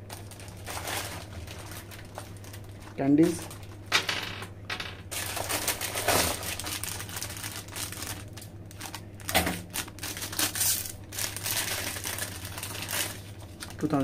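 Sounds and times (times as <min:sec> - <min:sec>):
plastic snack packet crinkling: 0:00.0 - 0:03.8, 0:05.1 - 0:14.0.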